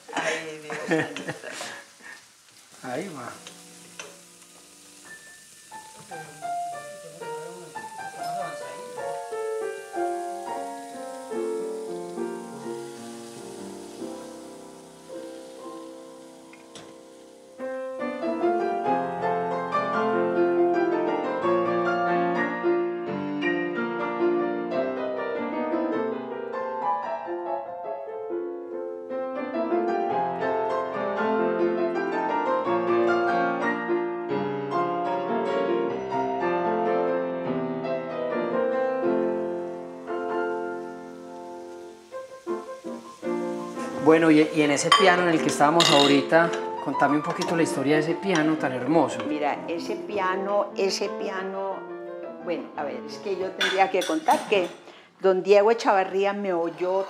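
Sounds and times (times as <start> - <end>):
solo piano playing: 2.8 - 54.7.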